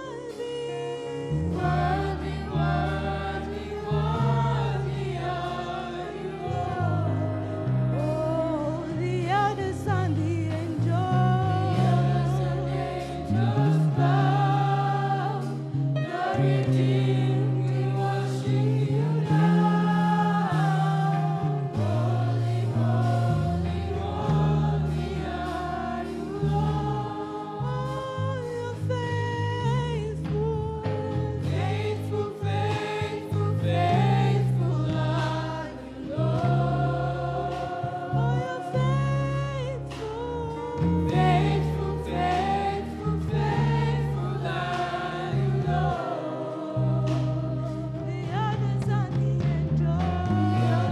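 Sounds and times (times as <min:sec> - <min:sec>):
group of voices singing: 0:00.0 - 0:50.9
steady bass accompaniment: 0:00.0 - 0:50.9.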